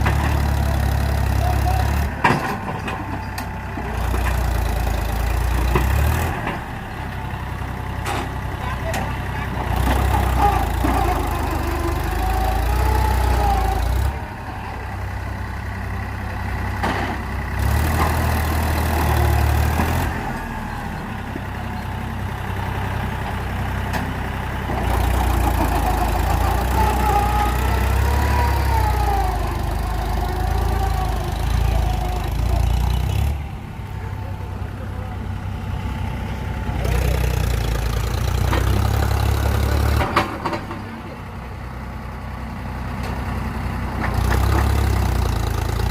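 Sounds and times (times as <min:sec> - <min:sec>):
tractor engines running under load: 0:00.0 - 0:45.9.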